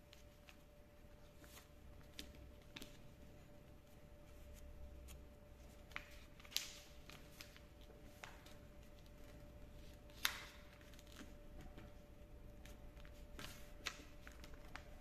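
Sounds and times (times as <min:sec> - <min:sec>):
paper rustling and crackling: 0:00.0 - 0:12.0, 0:12.6 - 0:15.0
faint steady hum: 0:00.0 - 0:15.0.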